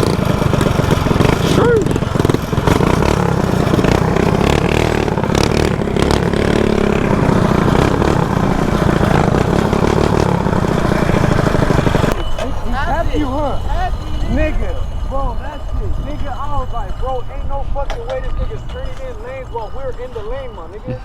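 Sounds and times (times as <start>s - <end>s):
mini bike engine running: 0.0s - 21.0s
wind buffeting microphone: 0.0s - 21.0s.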